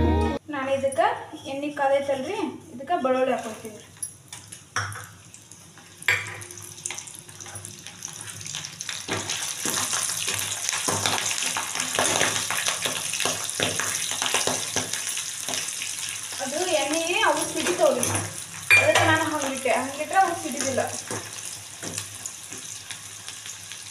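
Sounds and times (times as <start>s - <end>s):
food sizzling in hot oil: 3.2s - 23.9s.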